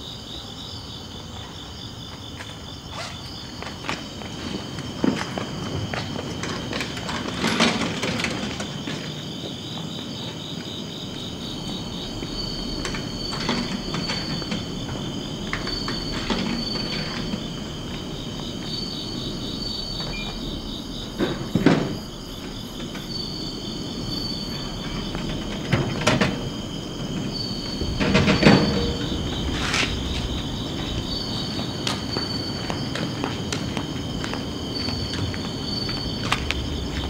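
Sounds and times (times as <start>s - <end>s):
high pulsing insect call: 0.0s - 37.0s
insects chirring: 0.0s - 37.0s.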